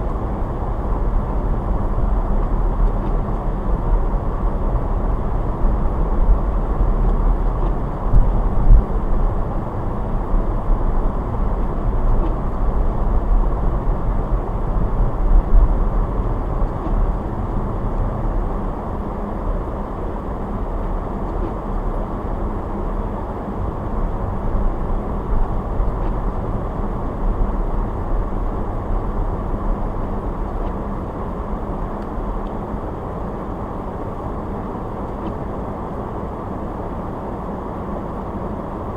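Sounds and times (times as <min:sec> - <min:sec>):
car road and engine noise: 0:00.0 - 0:38.9.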